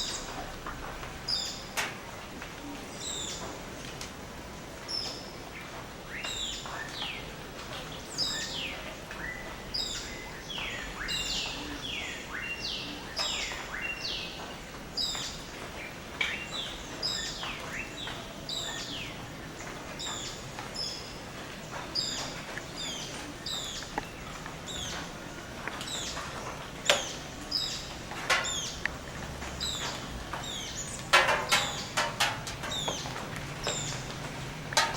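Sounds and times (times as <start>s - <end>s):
background hiss: 0.0s - 34.9s
birds calling: 4.9s - 34.9s.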